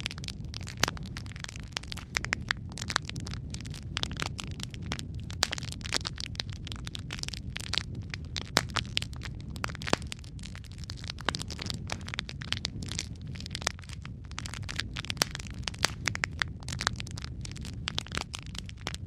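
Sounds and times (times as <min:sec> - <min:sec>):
logs burning with crackles: 0:00.0 - 0:19.0.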